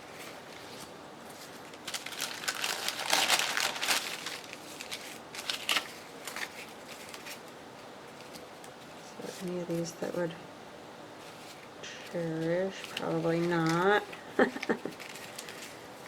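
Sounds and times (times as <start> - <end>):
paper crinkling and rustling: 0.0 - 10.3, 11.2 - 16.0.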